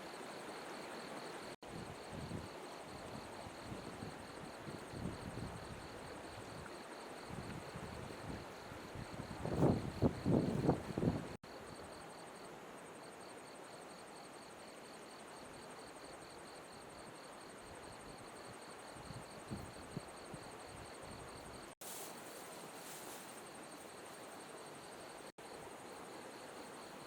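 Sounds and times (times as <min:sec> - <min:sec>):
background hiss: 0:00.0 - 0:27.0
crickets chirping: 0:00.0 - 0:27.0.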